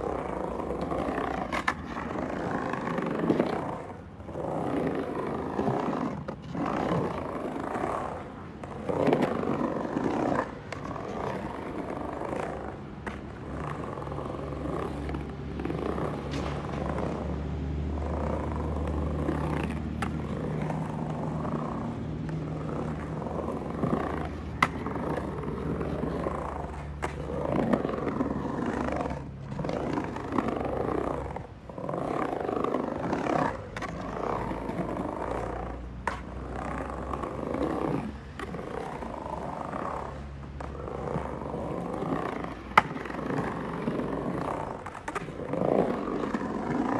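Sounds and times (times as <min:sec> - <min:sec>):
skateboard clacks: 0:00.0 - 0:46.9
skateboard wheels rolling on concrete: 0:00.0 - 0:46.9.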